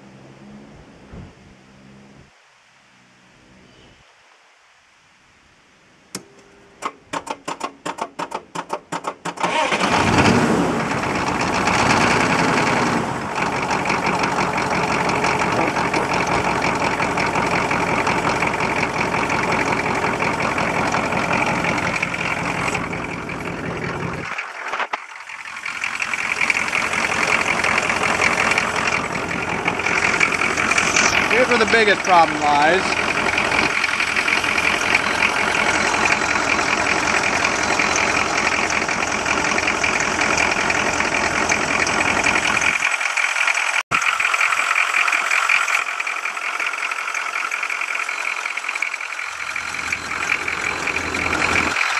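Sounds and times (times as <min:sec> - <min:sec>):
starter cranking diesel engine: 0:06.8 - 0:51.9
diesel engine running: 0:07.8 - 0:51.9.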